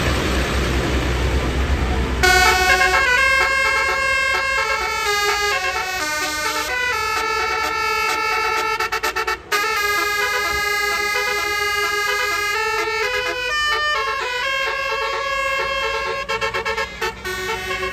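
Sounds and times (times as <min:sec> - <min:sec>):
bus engine rumble and hiss: 0:00.0 - 0:17.9
bus horn playing a tune: 0:02.0 - 0:17.9.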